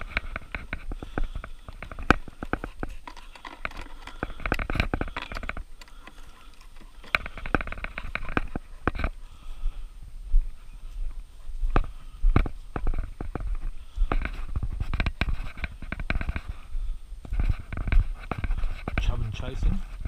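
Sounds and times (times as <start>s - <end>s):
rustling: 0.0s - 9.6s, 10.5s - 20.0s.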